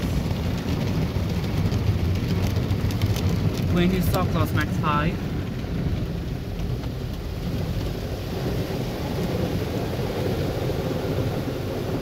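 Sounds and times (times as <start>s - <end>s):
car wash cloth and water rushing: 0.0s - 12.0s.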